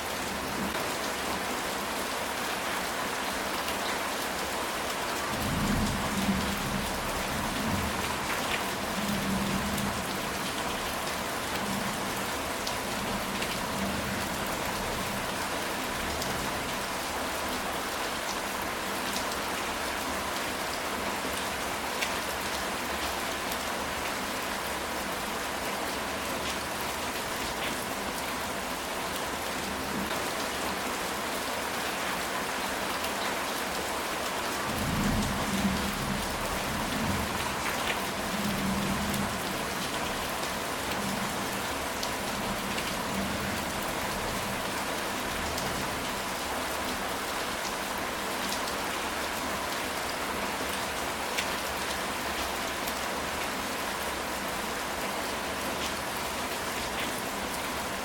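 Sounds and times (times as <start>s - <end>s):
rain on a tile roof: 0.0s - 58.0s.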